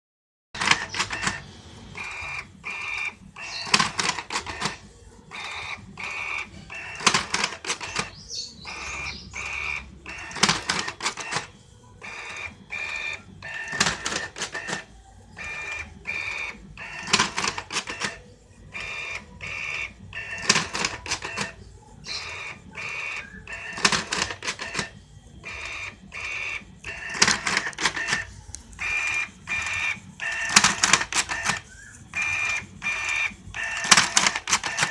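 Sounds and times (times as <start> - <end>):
numbering machine clacking: 0.6 - 34.9
machine ticking: 2.0 - 34.9.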